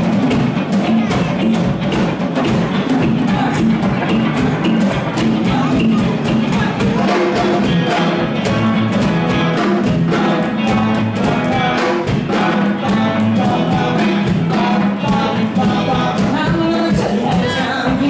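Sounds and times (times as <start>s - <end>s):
rock and roll band playing: 0.0s - 18.0s.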